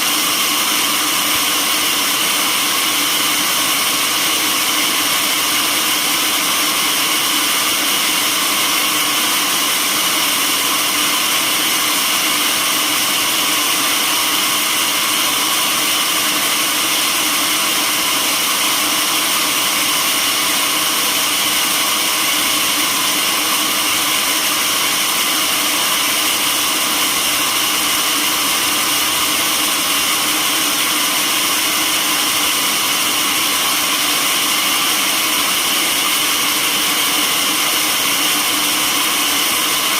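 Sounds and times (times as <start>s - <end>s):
sawmill machinery whirring: 0.0s - 39.9s.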